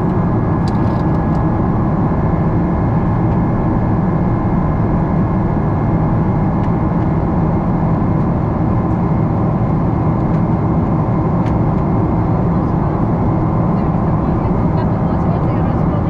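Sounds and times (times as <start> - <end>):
airplane cabin engine roar: 0.0 - 16.0.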